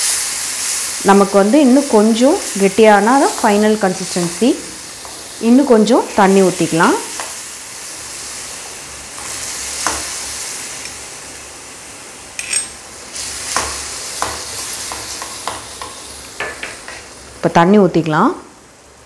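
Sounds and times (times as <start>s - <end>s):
oil sizzling and bubbling: 0.0s - 19.0s.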